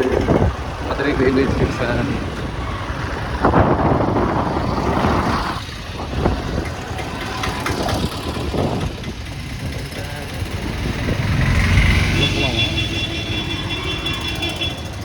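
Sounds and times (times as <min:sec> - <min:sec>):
motorcycle engine running: 0:00.0 - 0:15.0
road and traffic noise: 0:00.0 - 0:15.0.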